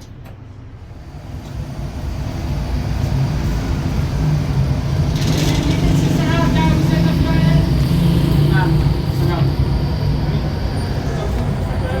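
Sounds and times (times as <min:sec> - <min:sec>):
motorcycle engine humming: 0:01.2 - 0:12.0.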